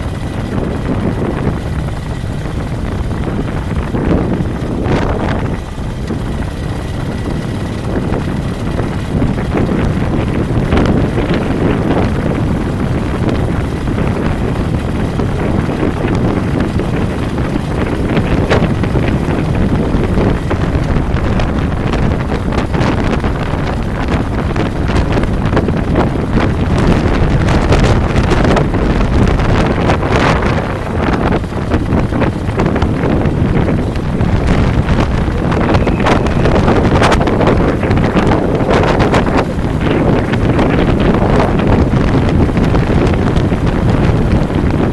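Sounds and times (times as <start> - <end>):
vehicle driving rumble: 0.0 - 44.9
wind buffeting microphone: 0.0 - 44.9.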